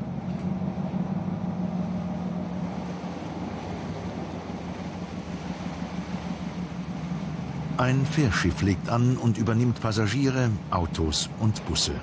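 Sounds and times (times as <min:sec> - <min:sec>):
ferry engine low drone: 0:00.0 - 0:12.0.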